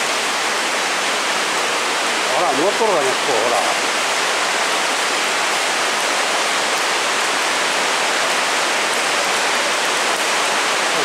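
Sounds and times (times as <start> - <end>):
heavy rain on a roof: 0.0 - 11.0.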